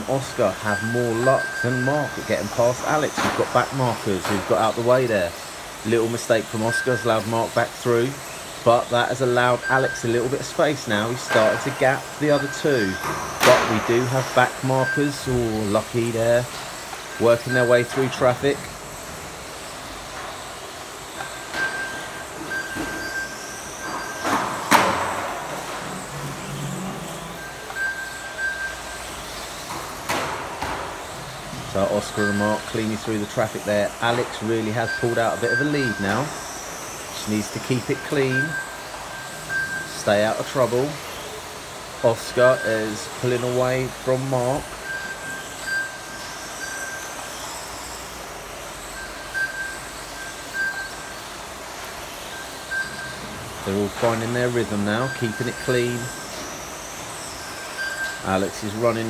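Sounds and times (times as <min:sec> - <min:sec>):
thin high tone: 0:00.0 - 0:29.7, 0:31.2 - 0:59.0
rc car motor whine: 0:00.0 - 0:30.1, 0:30.7 - 0:59.0.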